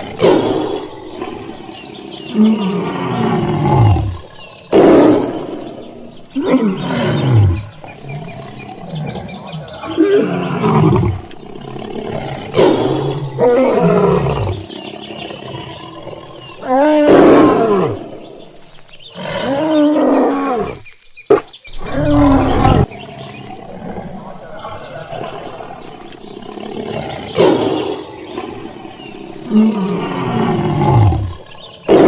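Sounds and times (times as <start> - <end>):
big cat roaring: 0.0 - 18.4, 19.1 - 20.8, 21.7 - 32.0.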